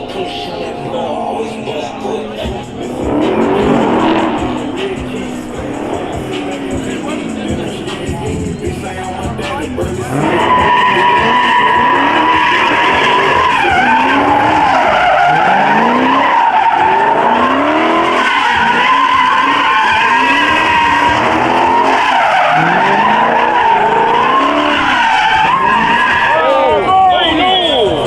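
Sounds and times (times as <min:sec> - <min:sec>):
car engine revving: 0:00.0 - 0:28.0
tyres squealing: 0:00.0 - 0:28.0.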